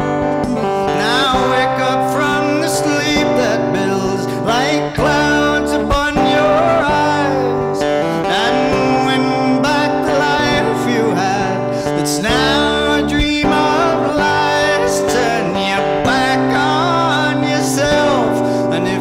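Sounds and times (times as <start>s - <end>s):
acoustic guitar playing: 0.0s - 19.0s
man singing: 0.0s - 19.0s.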